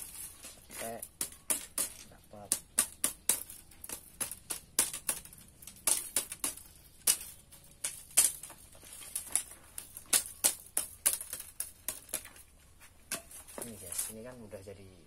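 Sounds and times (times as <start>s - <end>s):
tool tapping bamboo strips: 0.0s - 14.3s.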